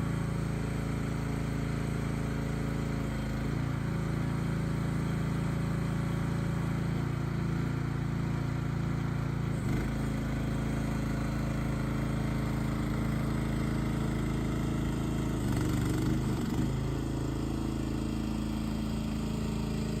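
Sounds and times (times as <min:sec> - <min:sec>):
small gas engine running: 0:00.0 - 0:20.0.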